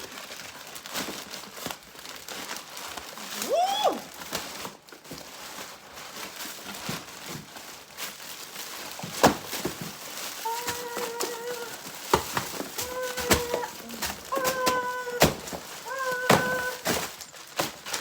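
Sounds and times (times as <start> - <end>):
plastic bag crinkling and rustling: 0.0 - 18.0.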